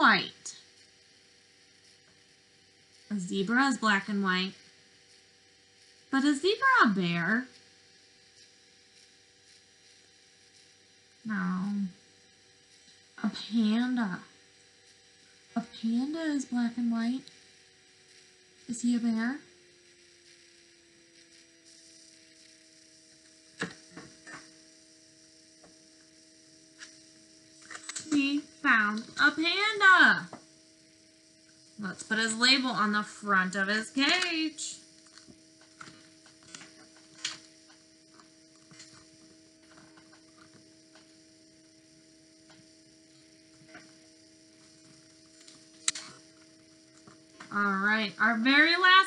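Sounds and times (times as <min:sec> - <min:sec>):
electrical mains hum: 0:00.0 - 0:49.0.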